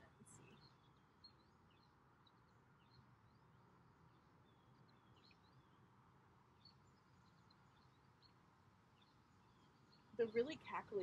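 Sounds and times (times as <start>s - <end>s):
distant songbirds chirping: 0.0s - 11.0s
low background noise: 0.0s - 11.0s.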